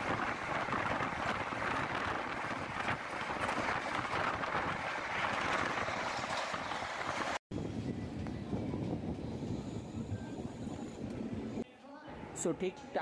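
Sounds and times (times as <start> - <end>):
train running on rails: 0.0 - 11.6
wind rushing past microphone: 0.0 - 11.6.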